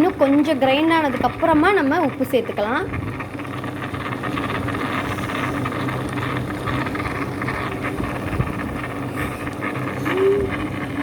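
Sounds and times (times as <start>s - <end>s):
wet grinder motor hum: 0.0s - 11.0s.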